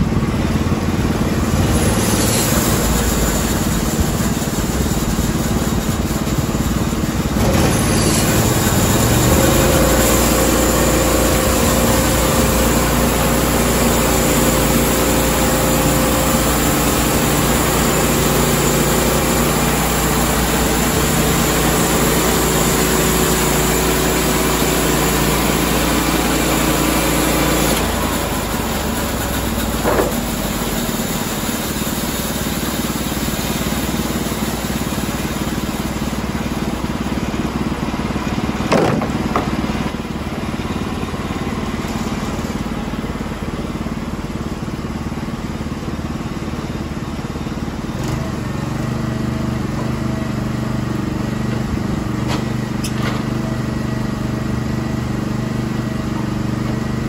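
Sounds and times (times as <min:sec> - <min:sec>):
bandsaw mill engine running: 0:00.0 - 0:57.0.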